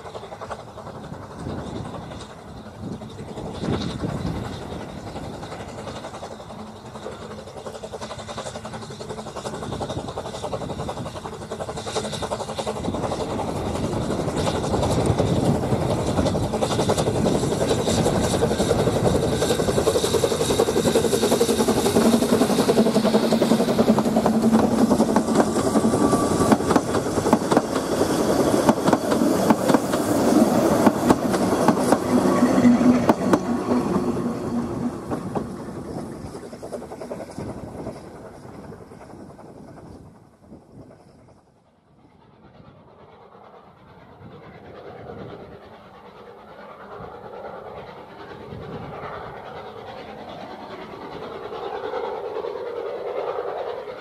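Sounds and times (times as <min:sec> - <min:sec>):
steam locomotive passing: 0:00.0 - 0:54.0.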